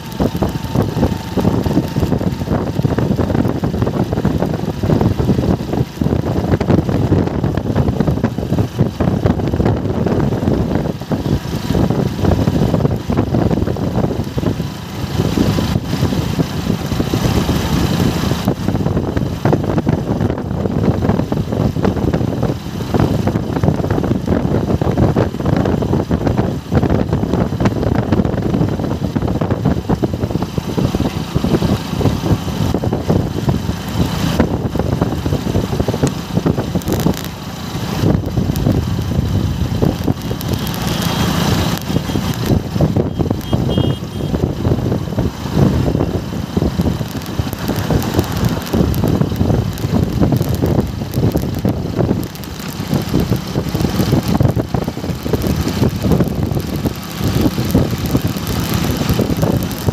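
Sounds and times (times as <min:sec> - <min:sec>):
motorcycle engine and wind rush: 0:00.0 - 0:59.9.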